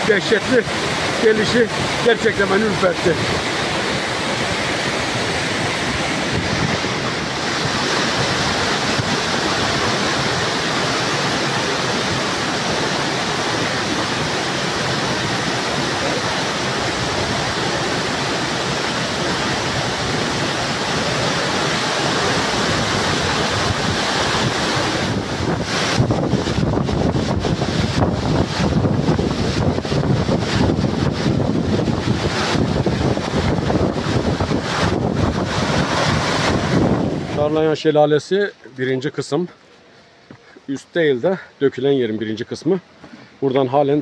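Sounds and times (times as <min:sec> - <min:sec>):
waterfall rushing: 0:00.0 - 0:38.4.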